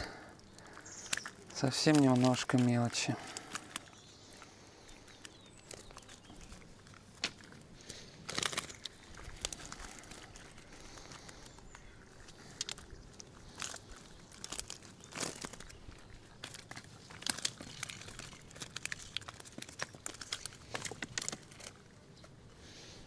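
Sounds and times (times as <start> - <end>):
mesh net rustling and clicking: 0.6 - 22.4.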